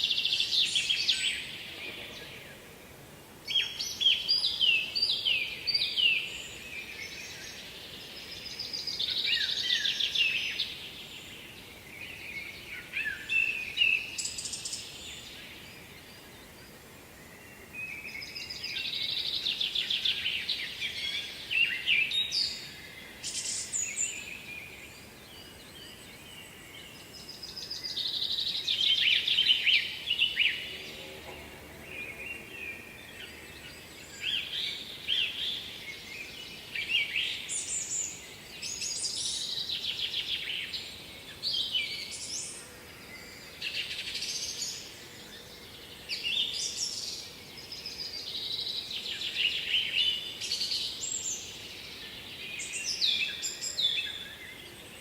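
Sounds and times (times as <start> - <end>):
faint background hiss: 0.0 - 55.0
songbirds singing: 0.0 - 55.0.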